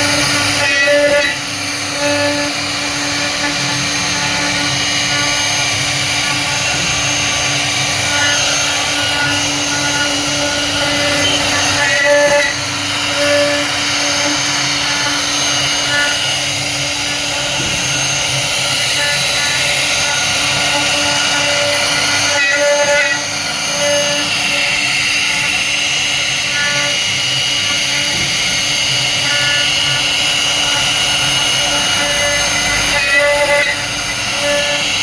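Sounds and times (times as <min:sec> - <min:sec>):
router spindle whine cutting wood: 0:00.0 - 0:35.0.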